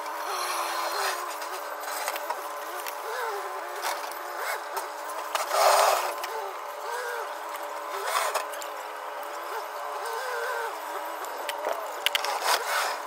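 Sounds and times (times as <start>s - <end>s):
steady machine drone: 0.0s - 13.0s.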